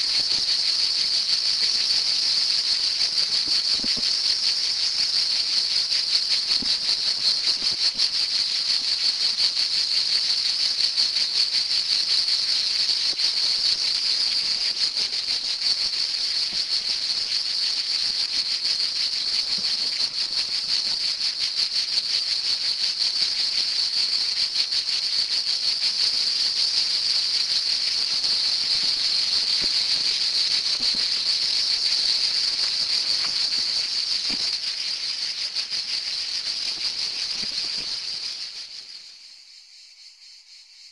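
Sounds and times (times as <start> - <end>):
insect chorus: 0.0 - 40.9.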